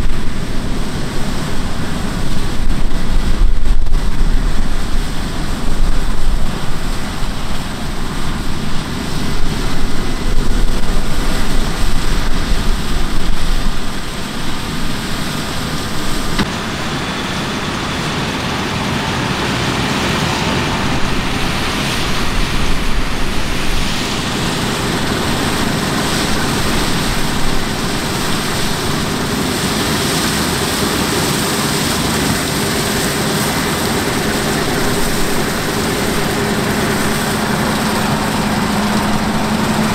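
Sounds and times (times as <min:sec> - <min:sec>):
heavy farm machinery droning: 0:00.0 - 0:39.9
wind buffeting microphone: 0:00.0 - 0:39.9.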